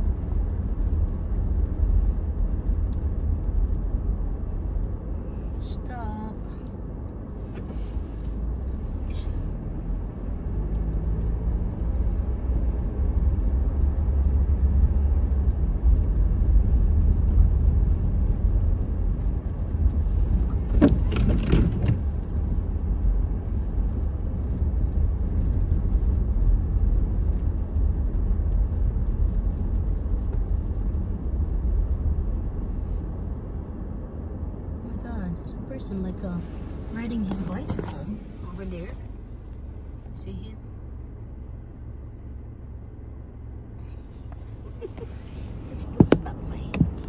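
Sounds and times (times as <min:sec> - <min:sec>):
car driving on snowy road: 0:00.0 - 0:47.0.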